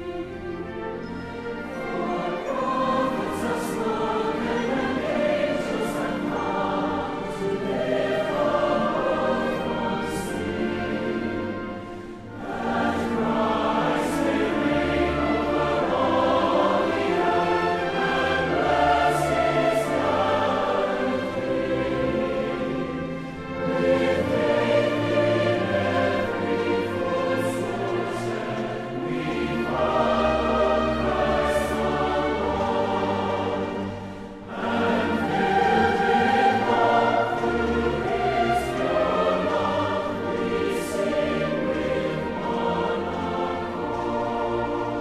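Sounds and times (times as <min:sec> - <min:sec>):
choir singing slowly: 0:00.0 - 0:45.0.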